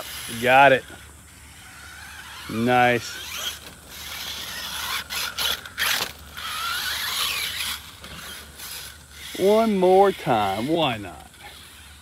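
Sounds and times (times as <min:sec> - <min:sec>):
rc car motor whining: 0:00.0 - 0:12.0.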